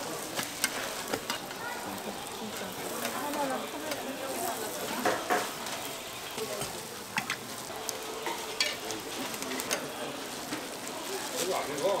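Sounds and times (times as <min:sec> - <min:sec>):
food sizzling in oil: 0:00.0 - 0:12.0
spatula tapping and scraping griddle: 0:00.1 - 0:07.6, 0:08.2 - 0:10.8.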